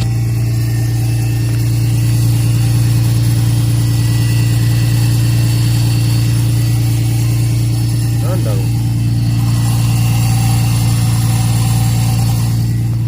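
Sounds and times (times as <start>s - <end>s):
car engine idling: 0.0s - 13.0s
very loud unusual engine noise: 0.0s - 13.0s.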